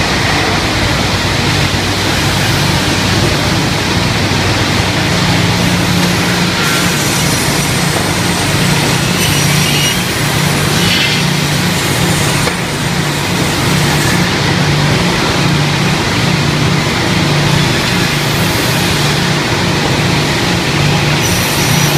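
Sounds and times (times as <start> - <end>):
ripping saw machine running: 0.0 - 21.9.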